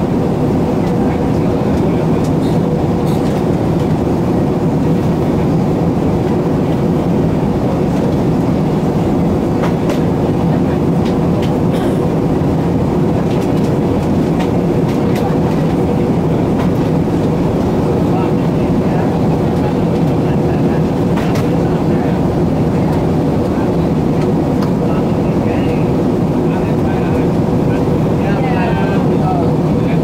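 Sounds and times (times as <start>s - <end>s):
aircraft cabin engine rumble: 0.0s - 30.0s.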